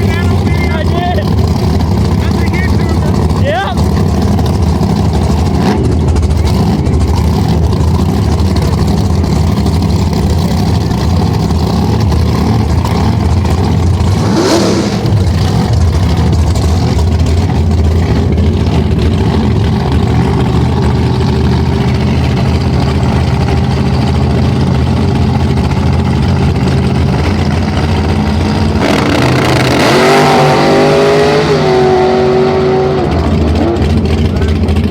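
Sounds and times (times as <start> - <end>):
engine revving up: 0.0 - 21.3, 27.3 - 34.6
drag car engines running: 0.0 - 34.9.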